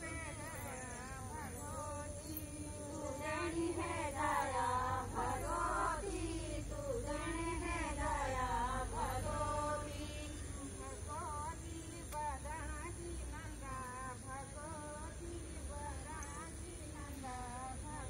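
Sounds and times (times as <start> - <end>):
women singing folk song: 0.0 - 18.0.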